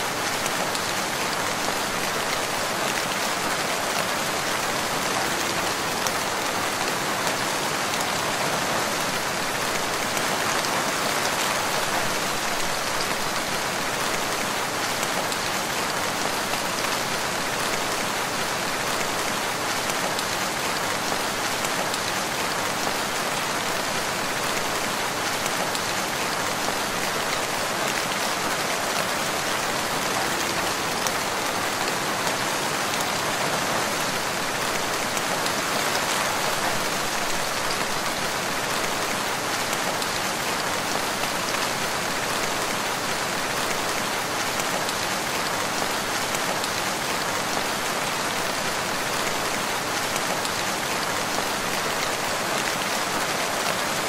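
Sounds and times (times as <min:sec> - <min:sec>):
rain falling in forest: 0:00.0 - 0:54.0.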